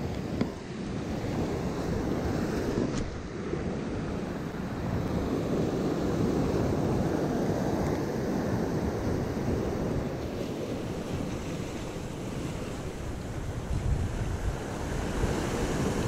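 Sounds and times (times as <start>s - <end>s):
surf washing over rocky shore: 0.0s - 16.0s
wind rumbling on microphone: 0.0s - 16.0s.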